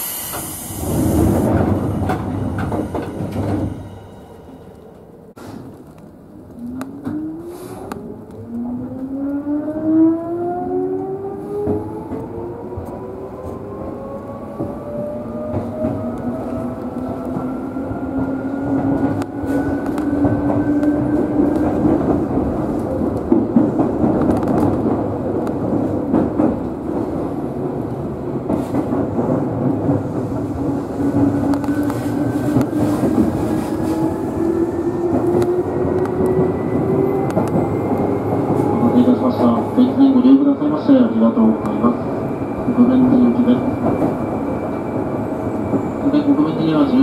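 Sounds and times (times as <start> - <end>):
wheels rumbling on rail: 0.0 - 47.0.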